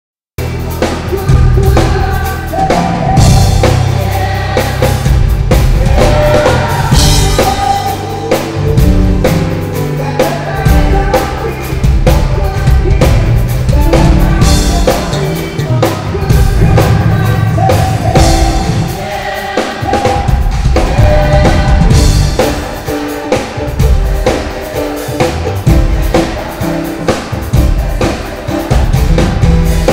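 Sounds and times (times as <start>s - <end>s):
electric bass line: 0.4s - 19.0s, 20.3s - 29.9s
drum kit with kick and snare: 0.4s - 29.9s.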